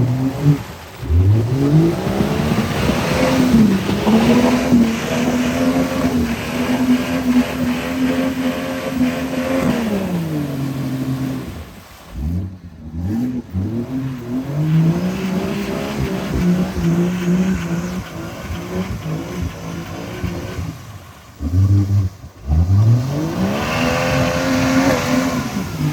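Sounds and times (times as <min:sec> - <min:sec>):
truck engine revving: 0:00.0 - 0:25.9.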